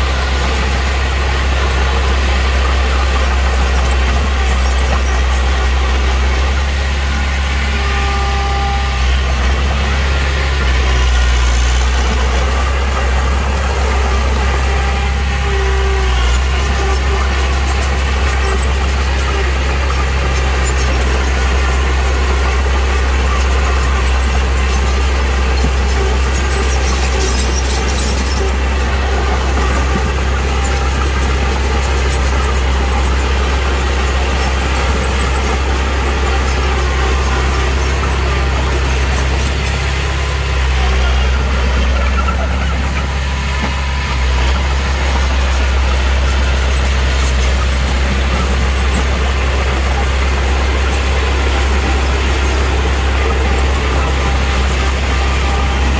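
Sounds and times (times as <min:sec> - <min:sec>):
diesel machinery engine drone: 0:00.0 - 0:55.9
short squeals: 0:00.0 - 0:55.9.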